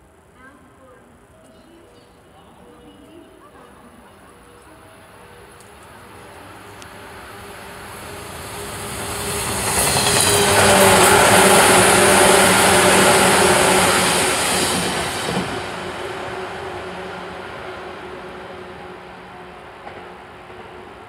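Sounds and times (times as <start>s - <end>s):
train wheels on rail passing: 1.2s - 21.0s.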